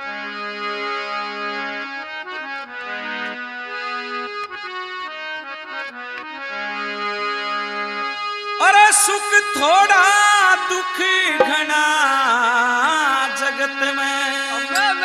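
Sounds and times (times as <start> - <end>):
harmonium melody: 0.0 - 15.0.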